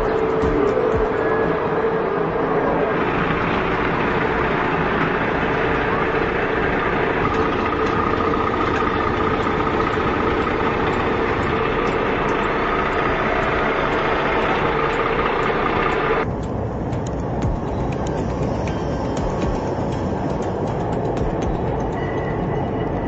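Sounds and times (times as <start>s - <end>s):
heavy truck engine humming: 0.0s - 23.0s.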